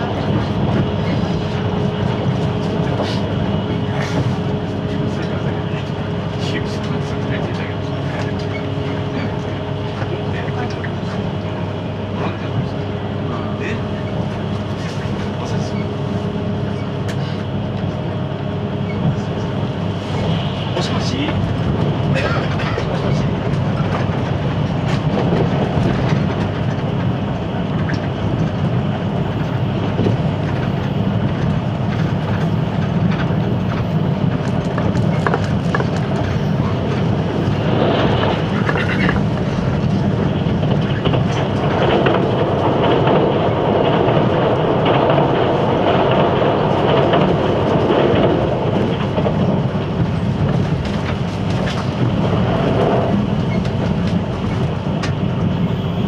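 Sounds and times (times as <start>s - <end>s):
clickety-clack of rail joints: 0.0s - 56.0s
train wheels rumbling on track: 0.0s - 56.0s.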